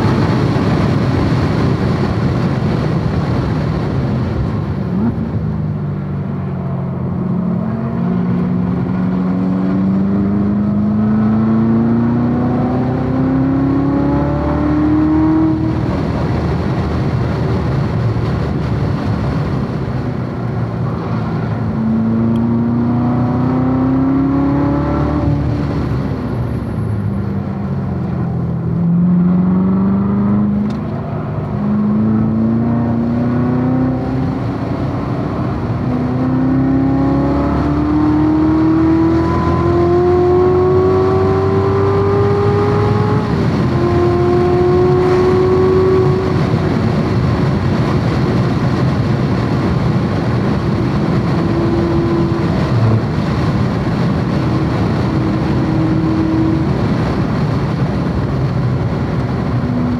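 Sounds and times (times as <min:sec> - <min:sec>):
sports car engine accelerating: 0:00.0 - 0:59.9.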